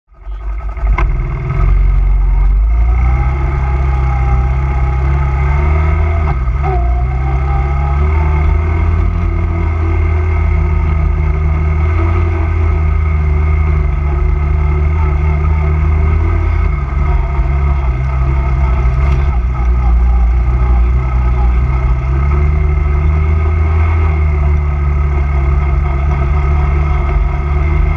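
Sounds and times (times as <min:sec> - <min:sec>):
quad bike engine droning: 0:00.1 - 0:27.9.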